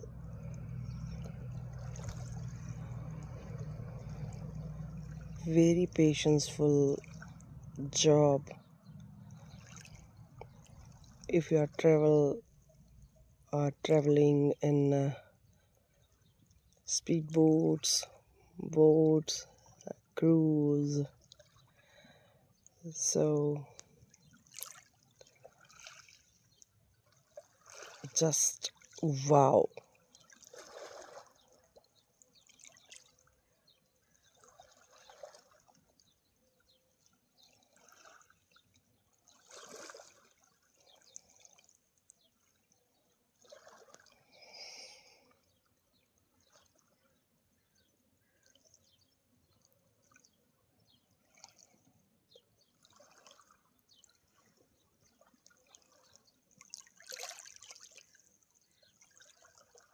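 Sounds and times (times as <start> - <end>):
faint water lapping: 0.0 - 59.9.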